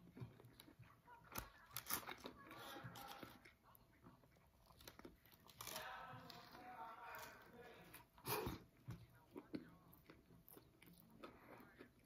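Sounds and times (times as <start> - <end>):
person chewing a burger: 0.0 - 12.0.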